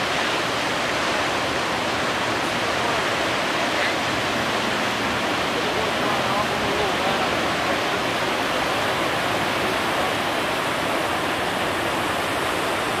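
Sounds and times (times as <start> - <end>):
river rapids roaring: 0.0 - 13.0.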